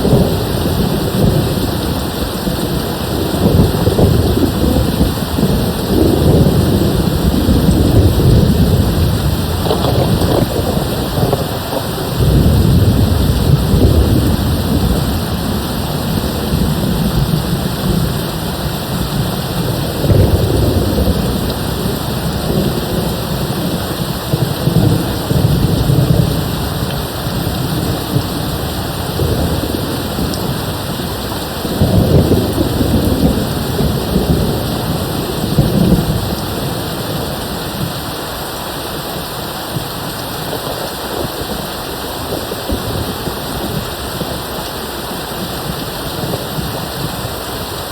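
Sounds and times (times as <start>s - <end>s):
low rolling thunder: 0.0s - 47.9s
steady rain: 0.0s - 47.9s.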